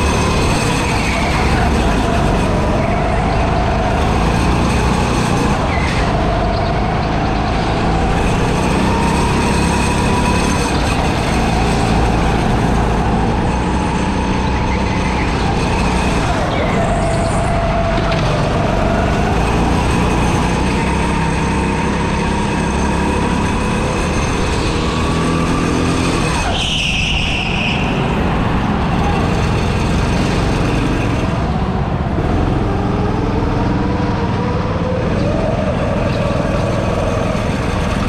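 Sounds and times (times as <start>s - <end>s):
go-kart engine running: 0.0s - 38.0s.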